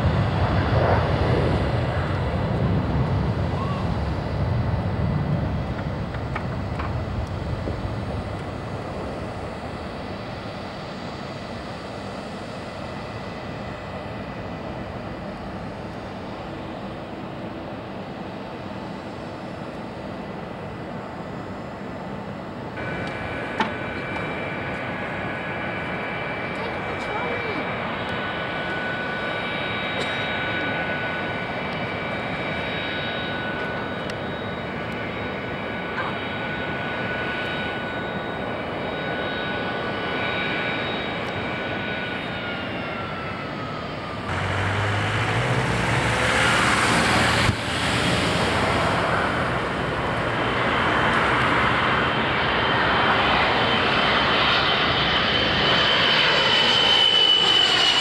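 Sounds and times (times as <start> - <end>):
airliner passing low overhead: 0.0 - 58.0
jet engines taxiing whine: 0.0 - 58.0.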